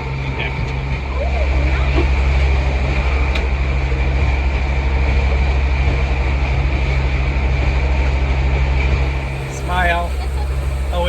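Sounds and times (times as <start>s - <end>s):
boat engine droning: 0.0s - 11.0s
hiss of wind and water: 0.0s - 11.0s.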